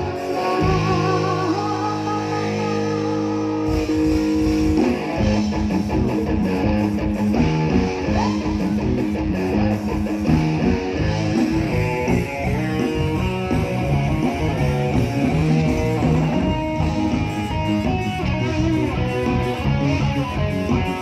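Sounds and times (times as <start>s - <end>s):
fast guitar run: 0.0s - 21.0s
live band instrumental music: 0.0s - 21.0s.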